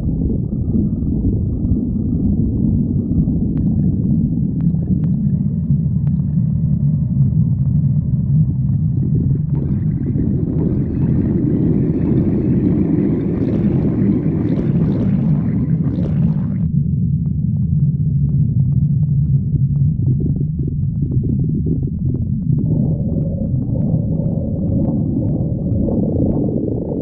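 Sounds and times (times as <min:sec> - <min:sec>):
stomach growling: 0:00.0 - 0:27.0.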